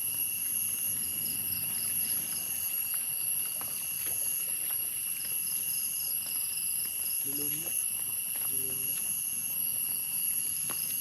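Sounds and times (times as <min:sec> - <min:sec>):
cricket-like chirps: 0:00.0 - 0:11.0
insects droning: 0:00.0 - 0:11.0.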